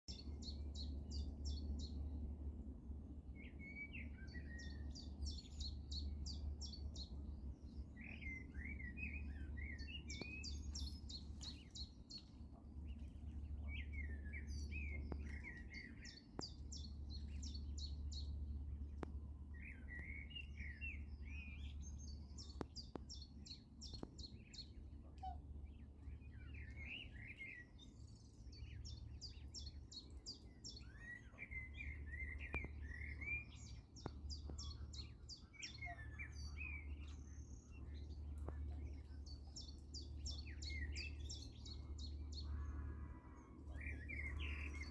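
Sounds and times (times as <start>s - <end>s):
steady low rumble: 0.1s - 44.9s.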